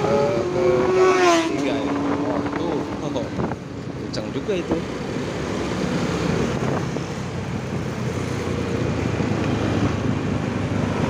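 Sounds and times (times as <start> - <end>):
surrounding traffic: 0.0 - 11.0
wind buffeting microphone: 0.0 - 11.0.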